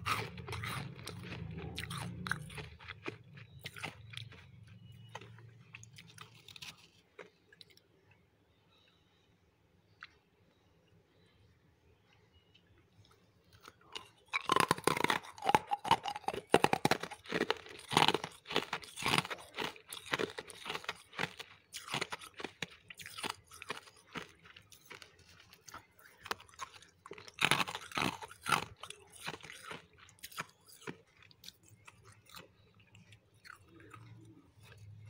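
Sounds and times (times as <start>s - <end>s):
frost being chewed with crunches: 0.0s - 8.1s, 12.0s - 35.0s.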